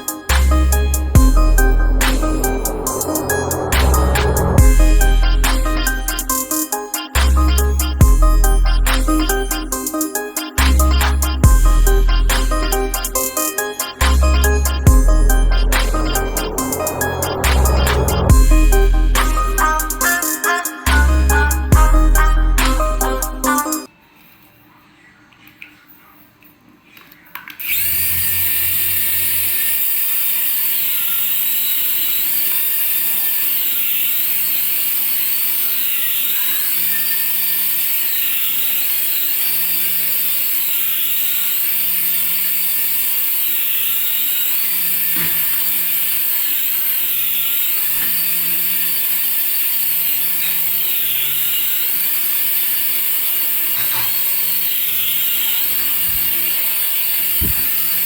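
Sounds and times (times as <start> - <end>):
toy electric motor whining: 0.0 - 23.9, 27.6 - 58.0.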